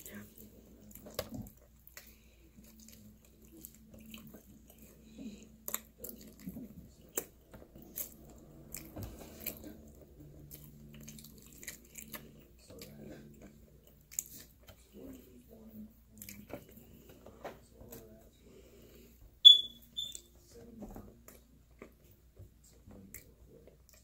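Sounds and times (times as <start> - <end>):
person chewing pizza crust: 0.0 - 19.2, 21.2 - 24.0.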